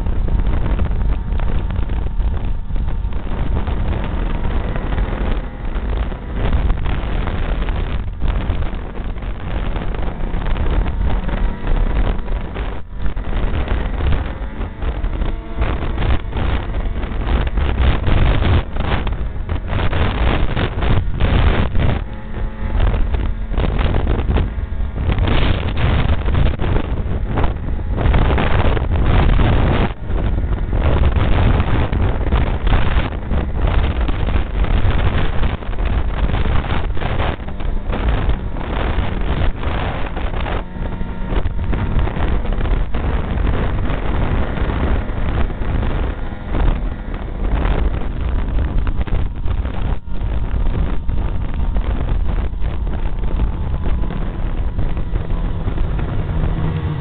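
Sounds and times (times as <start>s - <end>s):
snowmobile engine and track noise: 0.0s - 57.0s
wind buffeting microphone: 0.0s - 57.0s.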